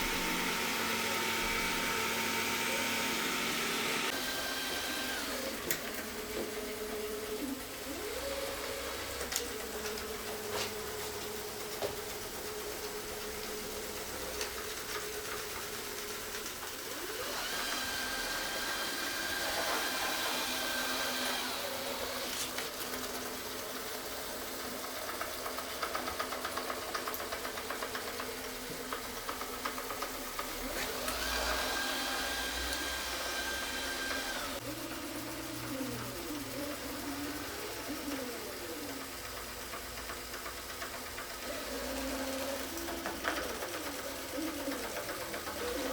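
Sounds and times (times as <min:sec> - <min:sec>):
robot vacuum motor hum: 0:00.0 - 0:45.9.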